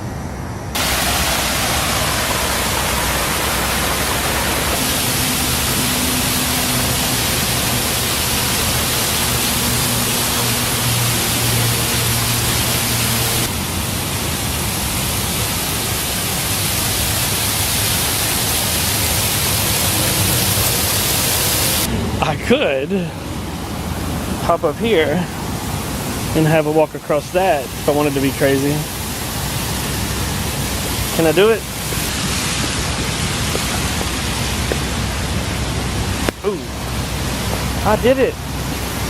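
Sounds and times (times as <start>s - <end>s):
small waterfall splashing: 0.8s - 21.9s, 23.8s - 39.0s.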